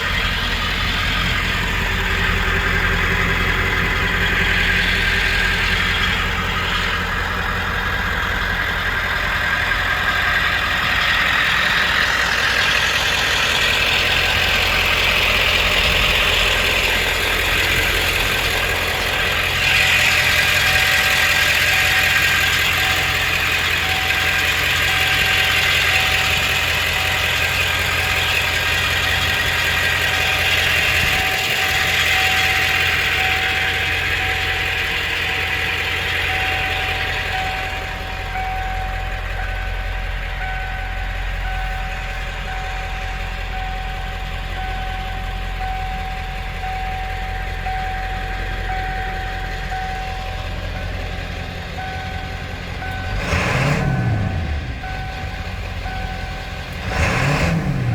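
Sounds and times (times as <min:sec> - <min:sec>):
diesel truck engine idling: 0:00.0 - 0:57.9.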